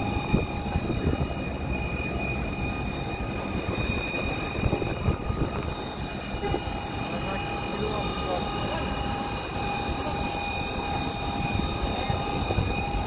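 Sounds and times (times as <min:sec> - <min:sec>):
constant high whine: 0:00.0 - 0:13.0
fire engine rumbling: 0:00.0 - 0:13.0.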